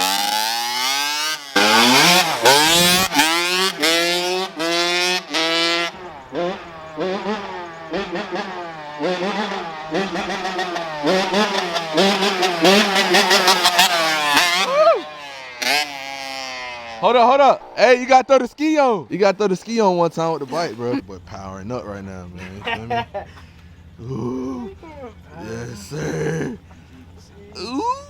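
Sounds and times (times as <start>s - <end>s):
dirt bike engine revving: 0.0s - 18.1s, 20.2s - 26.9s.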